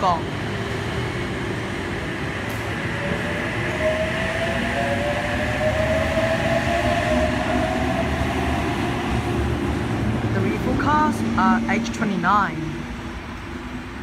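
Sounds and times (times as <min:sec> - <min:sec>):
train cars rumbling on track: 0:00.0 - 0:14.0.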